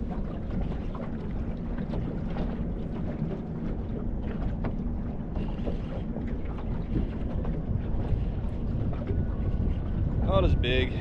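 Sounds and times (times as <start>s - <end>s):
water lapping against boat hull: 0.0s - 11.0s
wind buffeting microphone: 0.0s - 11.0s.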